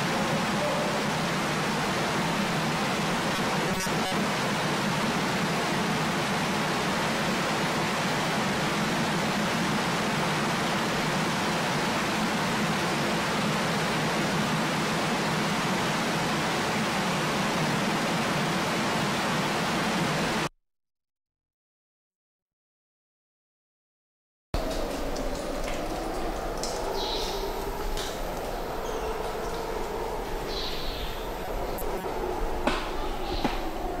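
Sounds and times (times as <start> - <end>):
water rushing: 0.0 - 20.5, 24.6 - 34.0.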